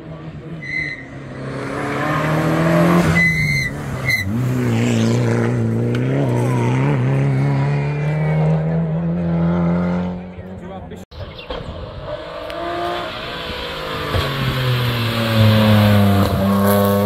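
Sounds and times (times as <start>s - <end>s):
rally car engine at high revs: 0.0s - 10.6s, 11.8s - 17.0s.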